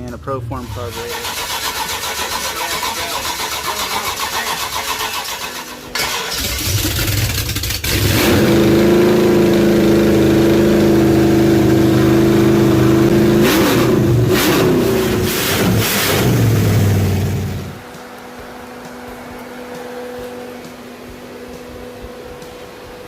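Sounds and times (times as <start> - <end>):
car engine revving: 0.6 - 20.0.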